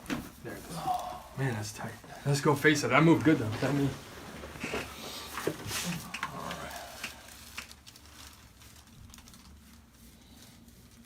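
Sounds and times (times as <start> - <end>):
padded table rustling and creaking: 0.0 - 11.0.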